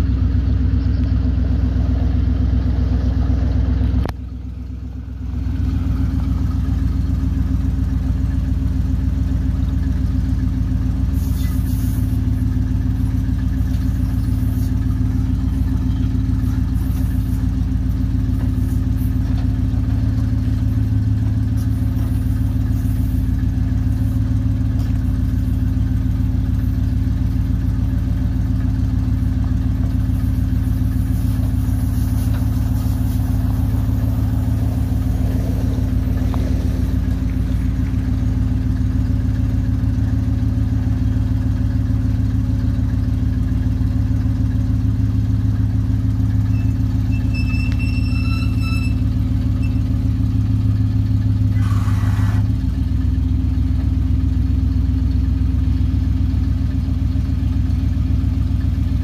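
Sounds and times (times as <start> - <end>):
truck engine running steadily: 0.0 - 59.0.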